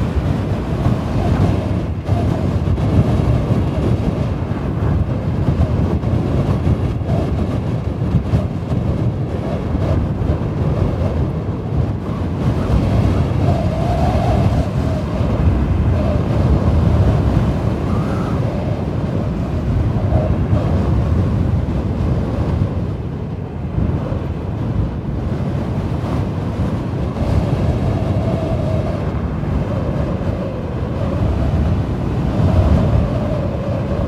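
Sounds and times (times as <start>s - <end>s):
strong wind rumbling and howling: 0.0s - 34.0s.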